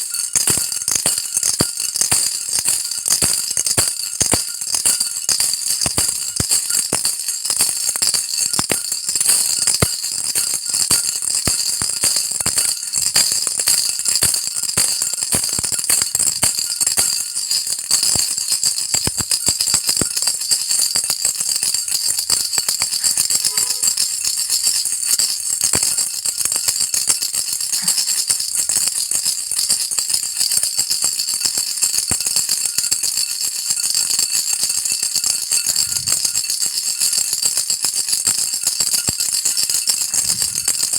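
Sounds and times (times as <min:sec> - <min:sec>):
baby rattle shaking: 0:00.0 - 0:40.9.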